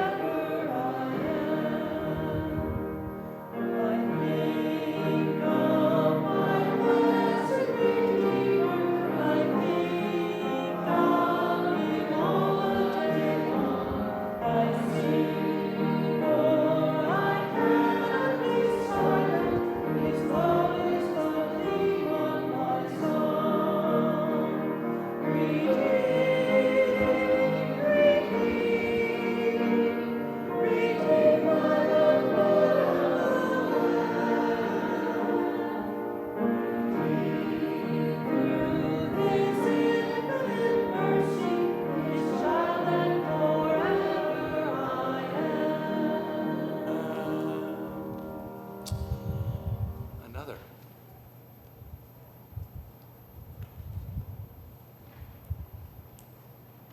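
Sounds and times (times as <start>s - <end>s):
congregation singing a hymn: 0.0s - 50.6s.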